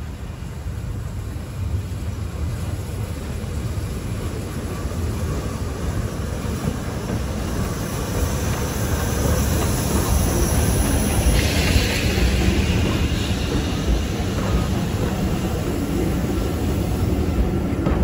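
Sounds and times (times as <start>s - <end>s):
steam locomotive passing: 0.0s - 18.0s.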